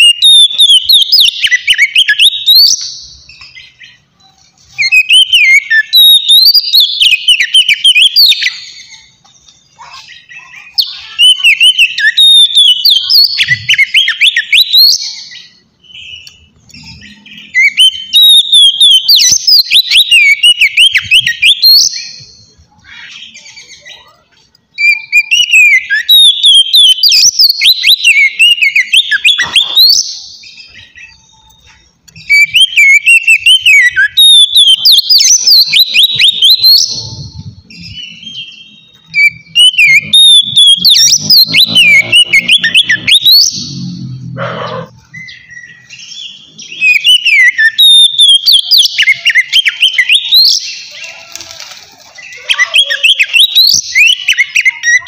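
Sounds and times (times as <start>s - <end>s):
bird singing whistled phrases: 0.0s - 4.0s, 4.6s - 43.8s, 44.5s - 51.3s, 52.1s - 55.0s.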